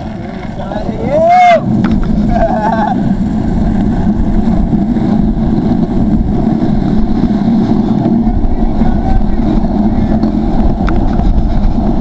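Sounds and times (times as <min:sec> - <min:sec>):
rolling road noise: 0:00.0 - 0:12.0
wind on microphone: 0:00.0 - 0:12.0.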